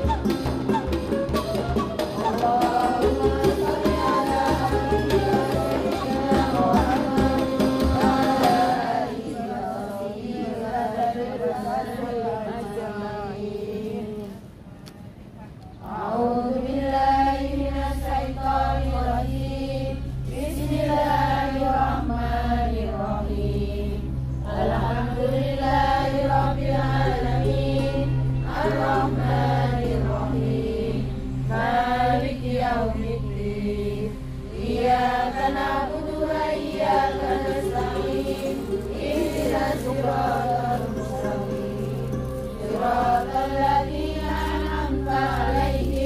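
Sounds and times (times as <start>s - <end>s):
women chanting prayers: 2.2s - 46.0s.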